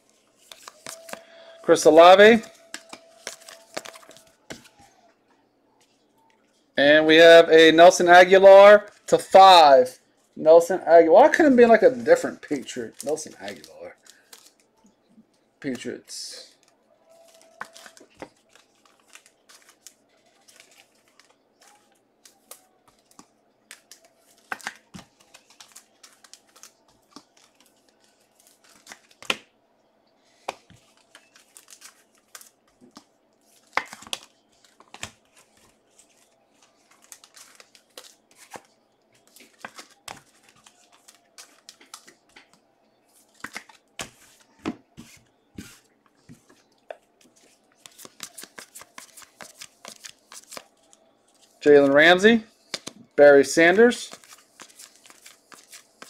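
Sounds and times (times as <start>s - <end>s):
cards being handled: 0.1s - 4.9s, 12.4s - 14.6s, 16.5s - 29.5s, 30.2s - 53.0s, 53.6s - 56.0s.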